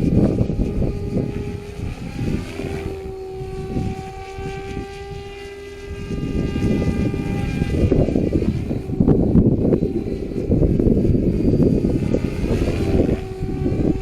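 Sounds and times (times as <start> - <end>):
rc helicopter motor whine: 0.0 - 14.0
wind buffeting microphone: 0.0 - 14.0.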